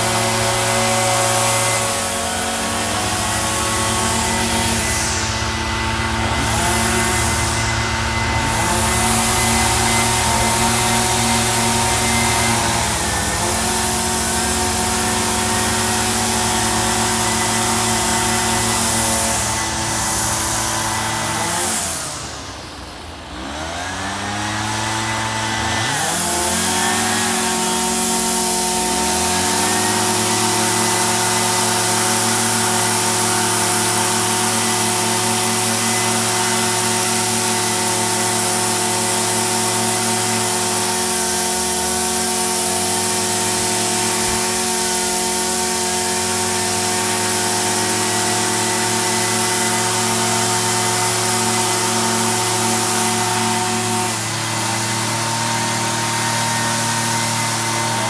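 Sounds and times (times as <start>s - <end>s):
small two-stroke engine running: 0.0s - 58.0s.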